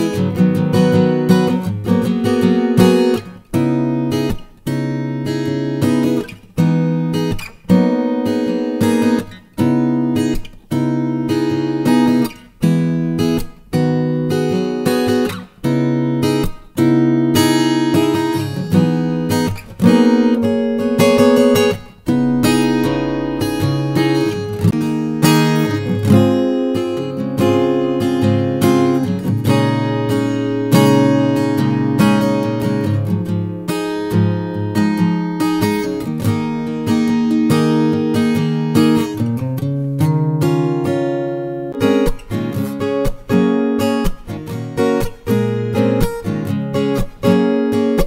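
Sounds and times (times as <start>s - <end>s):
acoustic guitar strummed chords: 0.0s - 48.0s.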